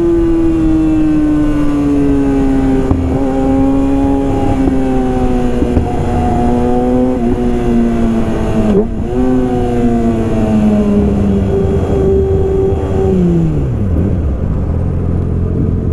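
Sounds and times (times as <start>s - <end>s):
motorcycle engine revving high: 0.0s - 15.9s.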